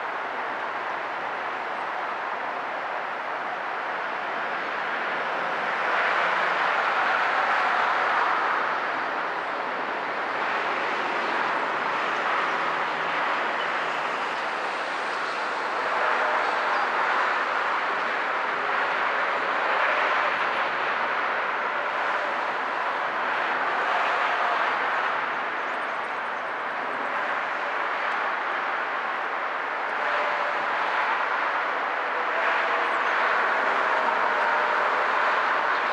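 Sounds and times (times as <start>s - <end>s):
road traffic noise: 0.0s - 35.9s.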